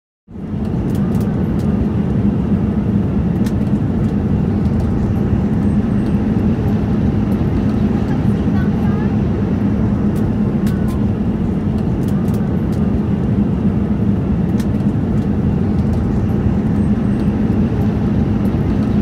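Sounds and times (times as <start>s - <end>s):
airflow over fuselage: 0.3s - 19.0s
jet engines roaring: 0.3s - 19.0s.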